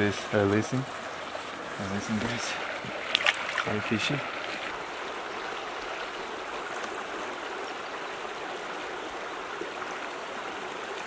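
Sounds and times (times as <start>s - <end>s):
creek flowing over rocks: 0.0s - 11.0s.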